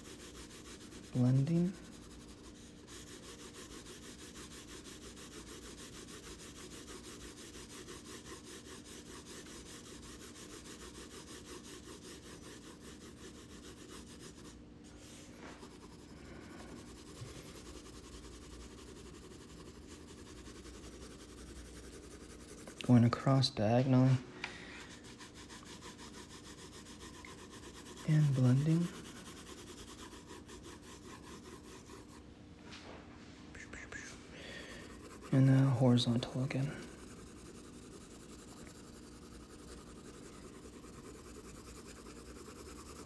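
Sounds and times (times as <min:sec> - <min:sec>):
pencil rubbing on paper: 0:00.0 - 0:32.2, 0:33.6 - 0:43.0.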